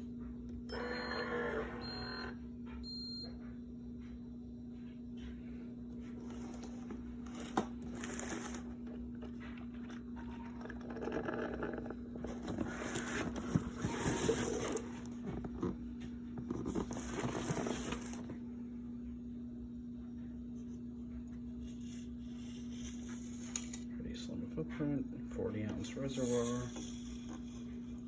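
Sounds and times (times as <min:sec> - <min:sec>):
coffee maker hum: 0:00.0 - 0:28.0.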